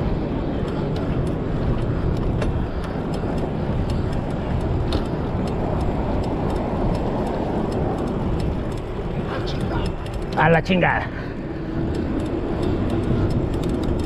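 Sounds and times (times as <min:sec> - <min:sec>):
bicycle clicks and rattles: 0:00.0 - 0:14.0
wind and road noise: 0:00.0 - 0:14.0.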